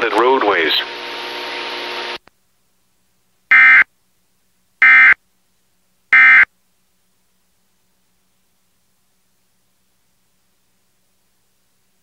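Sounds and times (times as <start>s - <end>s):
broadcast hiss: 0.0s - 12.0s.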